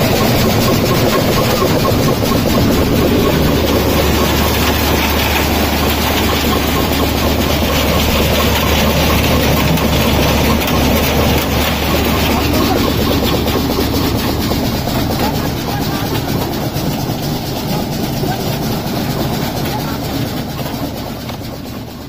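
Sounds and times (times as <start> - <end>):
machine low hum: 0.0 - 22.0
rattle of pods in machine: 0.0 - 22.0.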